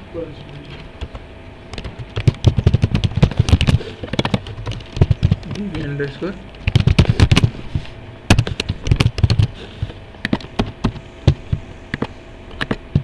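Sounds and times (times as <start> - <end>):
keyboard typing: 0.4 - 7.5, 8.3 - 13.0.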